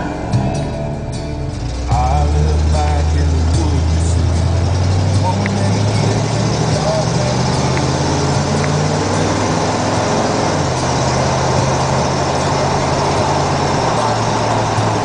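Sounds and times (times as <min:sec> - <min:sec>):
car engine cruising: 0:00.0 - 0:15.0.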